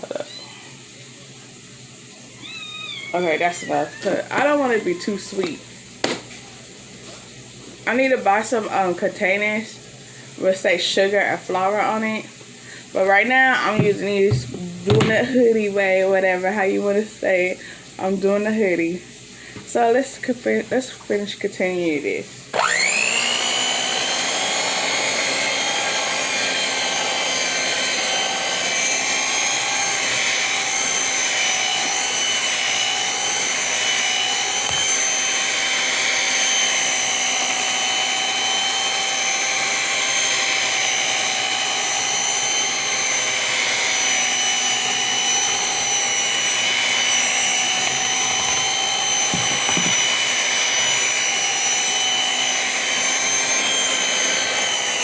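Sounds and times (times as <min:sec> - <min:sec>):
electric mixer beating dough: 0:00.0 - 0:55.0.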